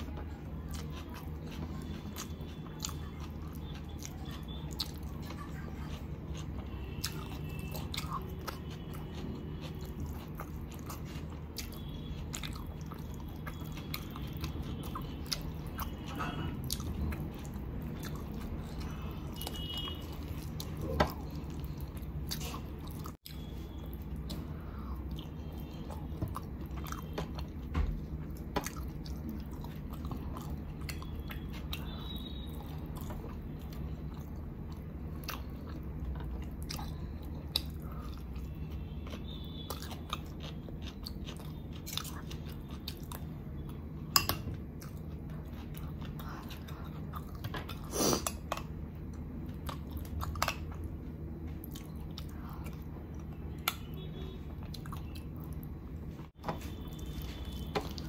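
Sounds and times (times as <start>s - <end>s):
close chewing with mouth smacks: 0.0s - 58.0s
low background hum: 0.0s - 58.0s.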